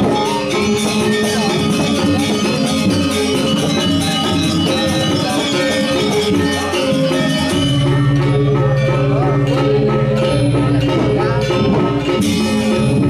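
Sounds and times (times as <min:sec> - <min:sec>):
metallophones ringing: 0:00.0 - 0:13.0.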